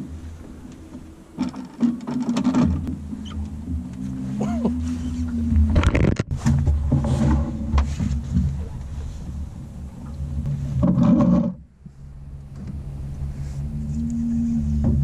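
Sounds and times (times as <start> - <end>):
knocks and rattles on boat: 0.0 - 13.0, 14.7 - 15.0
outboard motor running: 0.0 - 15.0.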